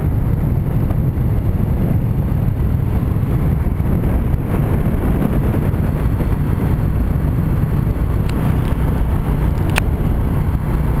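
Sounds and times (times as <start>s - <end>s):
motorbike engine: 0.0s - 11.0s
wind rumble on microphone: 0.0s - 11.0s.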